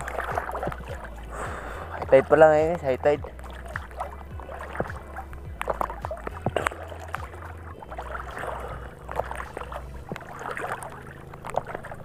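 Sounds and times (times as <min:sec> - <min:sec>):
bubbly plops: 0:00.0 - 0:12.0
steady low rumble: 0:00.0 - 0:12.0
water sloshing and splashing: 0:00.0 - 0:12.0.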